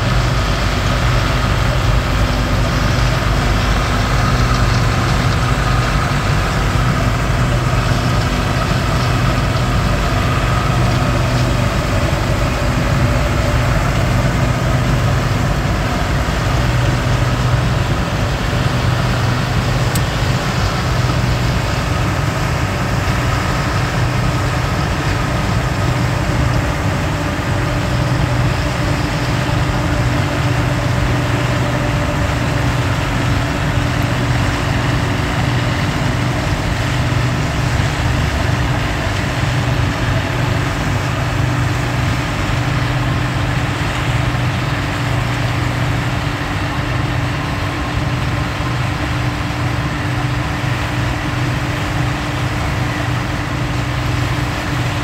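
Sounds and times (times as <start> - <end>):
combine harvesters droning: 0.0 - 55.0.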